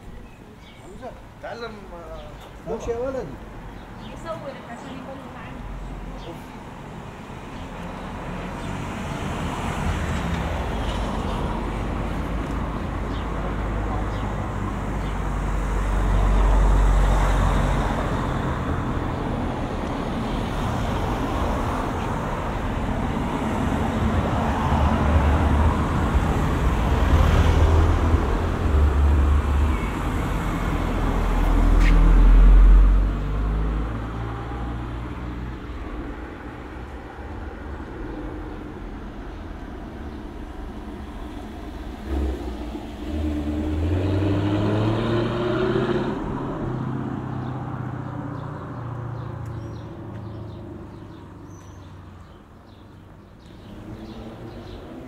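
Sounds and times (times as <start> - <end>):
cars passing by: 0.0 - 55.0.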